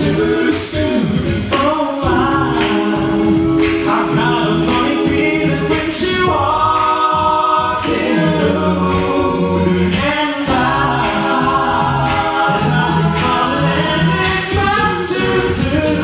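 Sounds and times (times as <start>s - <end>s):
male vocal group singing harmony: 0.0s - 16.0s.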